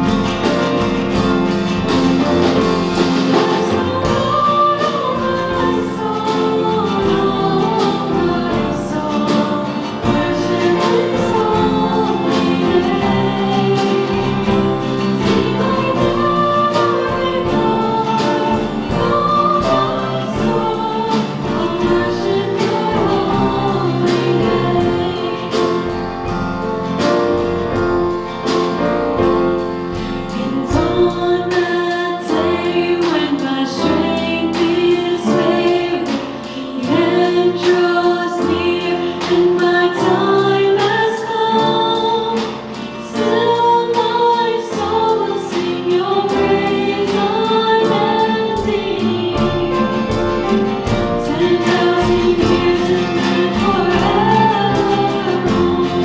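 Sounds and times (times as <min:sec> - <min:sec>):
choir singing worship song: 0:00.0 - 0:56.0
instrumental accompaniment with beat: 0:00.0 - 0:56.0.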